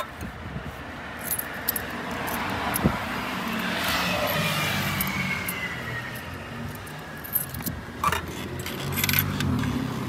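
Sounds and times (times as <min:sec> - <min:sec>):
vehicle going by: 0:01.3 - 0:10.0.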